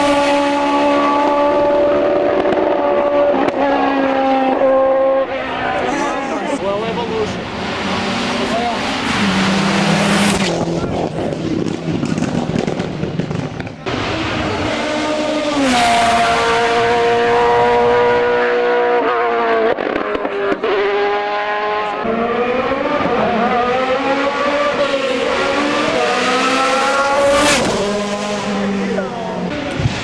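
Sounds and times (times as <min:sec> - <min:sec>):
race car engine revving: 0:00.0 - 0:30.0
race car passing: 0:00.0 - 0:30.0.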